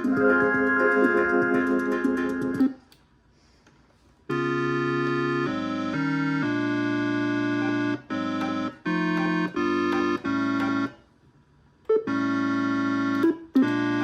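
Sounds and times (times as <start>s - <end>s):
electronic organ-like chords: 0.0s - 2.8s, 4.3s - 11.1s, 11.9s - 14.0s.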